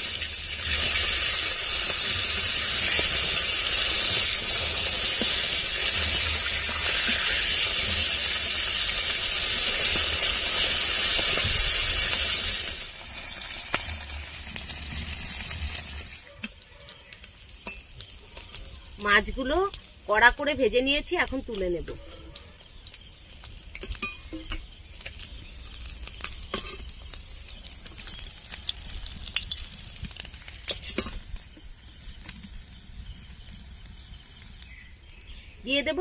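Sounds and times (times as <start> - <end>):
fish sizzling in hot oil: 0.0 - 36.0.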